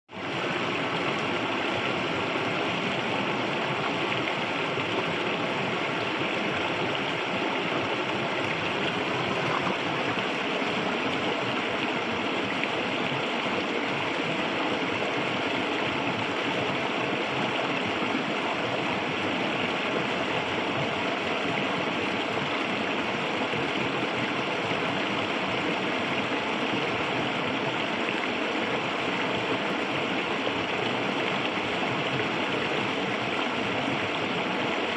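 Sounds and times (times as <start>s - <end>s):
water gurgling over stones: 0.1s - 34.9s.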